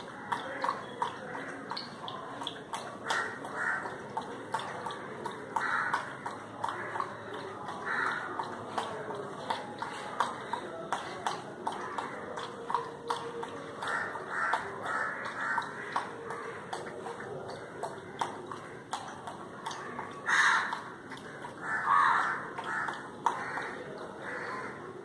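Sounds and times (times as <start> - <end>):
dog lapping water: 0.0 - 25.0.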